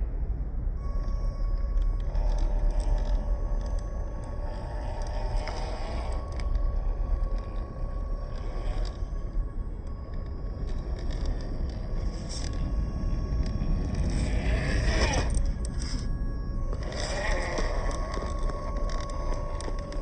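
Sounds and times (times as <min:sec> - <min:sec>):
small electric motor whining: 0:00.8 - 0:20.0
tyres clicking and scraping on rock: 0:01.7 - 0:09.4, 0:10.1 - 0:12.7, 0:13.4 - 0:16.1, 0:16.7 - 0:20.0.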